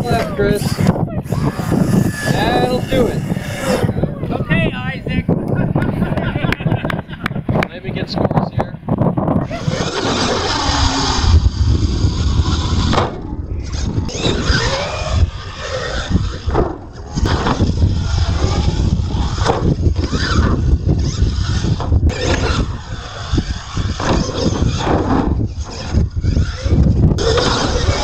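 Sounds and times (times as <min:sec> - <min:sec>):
electric motor whining: 0:00.0 - 0:06.6, 0:09.2 - 0:28.0.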